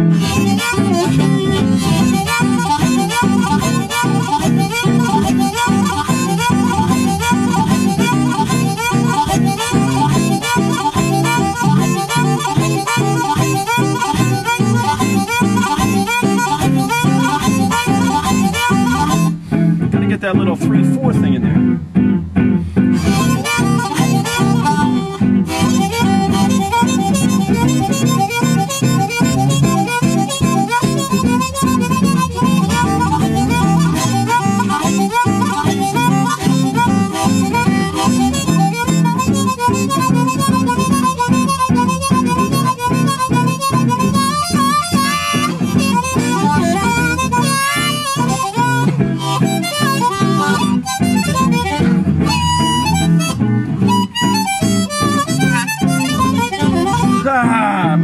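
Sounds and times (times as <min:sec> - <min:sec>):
blues guitar backing track: 0:00.0 - 0:58.0
blues harmonica riffs: 0:00.0 - 0:58.0.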